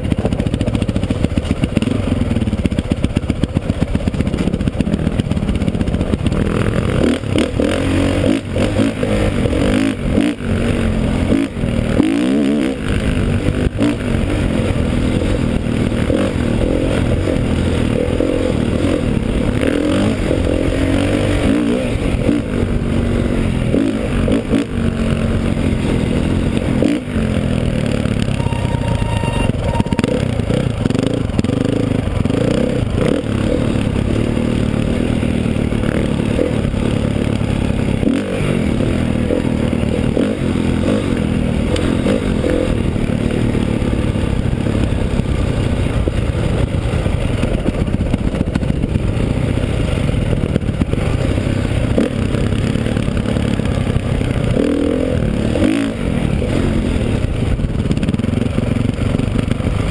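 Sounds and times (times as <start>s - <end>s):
bike rattling: 0.0s - 59.9s
dirt bike engine revving: 0.0s - 59.9s.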